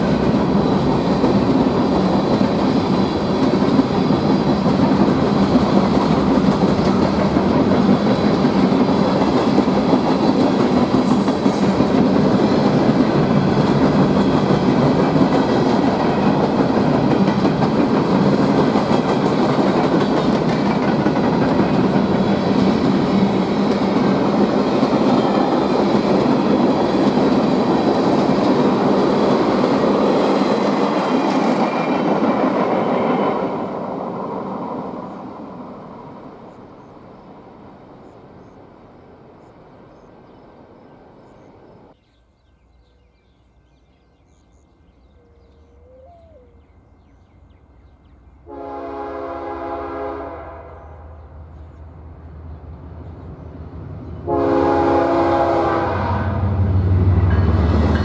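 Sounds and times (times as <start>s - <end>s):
freight train wheels on rails: 0.0s - 42.8s, 47.0s - 58.0s.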